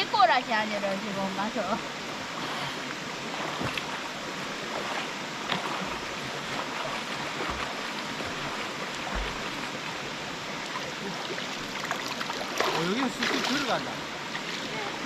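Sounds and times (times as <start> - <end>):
stream running over rocks: 0.0 - 15.0.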